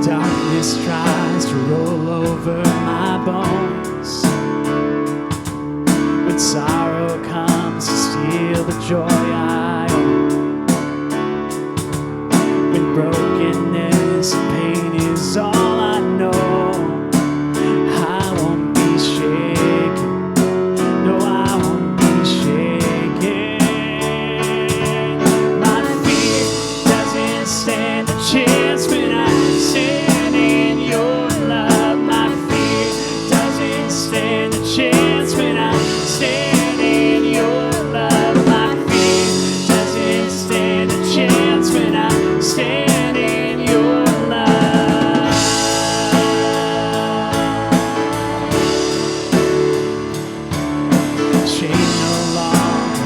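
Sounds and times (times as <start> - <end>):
voices singing: 0.0 - 10.9, 12.3 - 53.0
live band playing: 0.0 - 53.0.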